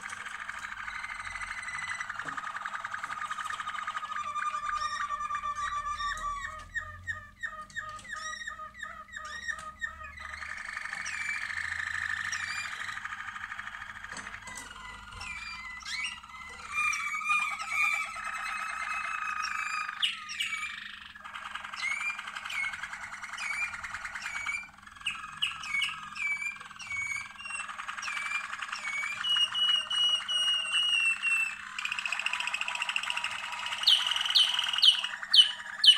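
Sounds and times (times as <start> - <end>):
canaries singing: 0.0 - 35.9.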